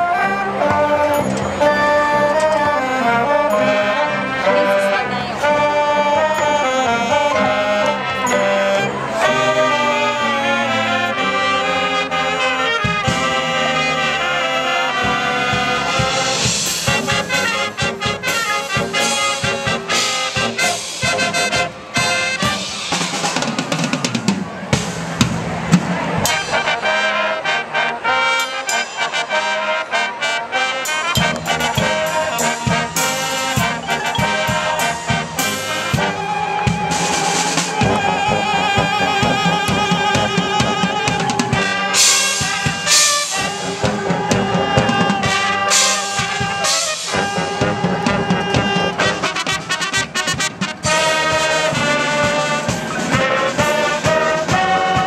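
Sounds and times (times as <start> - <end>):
marching band playing: 0.0 - 55.0.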